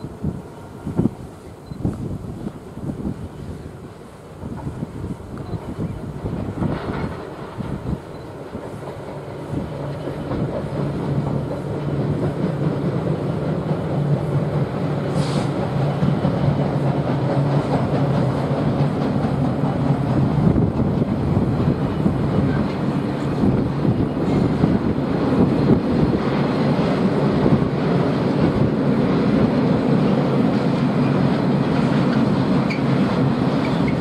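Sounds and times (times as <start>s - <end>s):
locomotive engine hum: 0.0s - 34.0s
train wagons rumbling and clattering: 0.0s - 34.0s.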